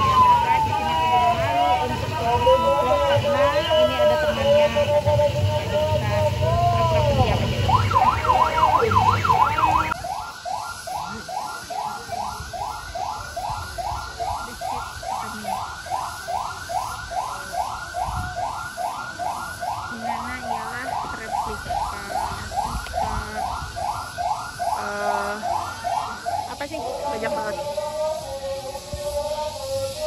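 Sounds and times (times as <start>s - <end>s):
electronic siren warbling: 0.0s - 30.0s.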